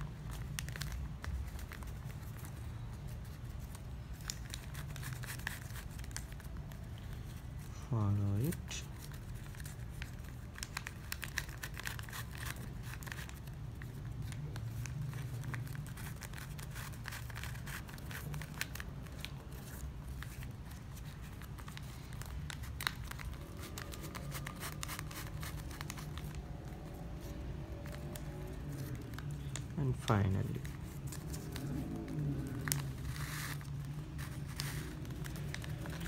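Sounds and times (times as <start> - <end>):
ribbon crinkling and rustling: 0.0 - 36.0.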